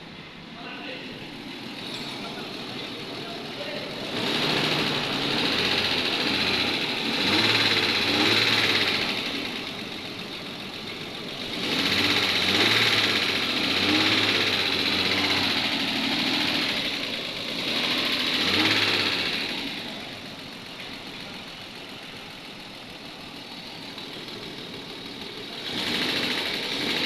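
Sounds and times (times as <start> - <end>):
engine running with abnormal noise: 0.0 - 27.0.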